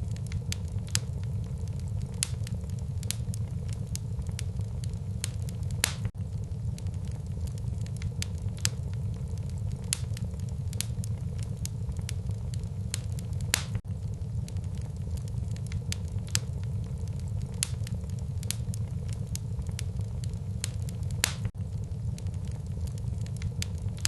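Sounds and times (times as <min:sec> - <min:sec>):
burning wood crackling and popping: 0:00.0 - 0:24.0
low rumble of flames: 0:00.0 - 0:24.0.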